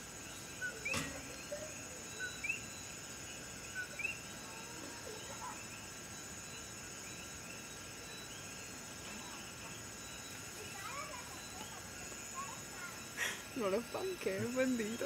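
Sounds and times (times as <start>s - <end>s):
high-pitched insect trilling: 0.0s - 15.0s.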